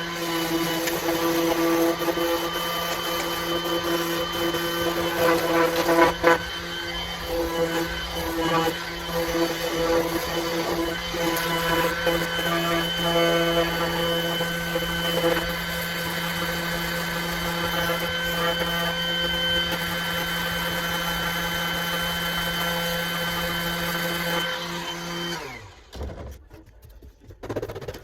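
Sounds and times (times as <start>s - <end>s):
electric jigsaw cutting: 0.0s - 26.2s.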